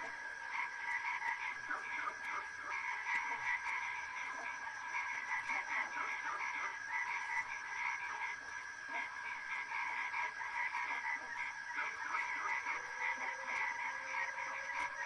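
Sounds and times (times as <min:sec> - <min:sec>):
chorus of pulsing animal trills: 0:00.0 - 0:15.0.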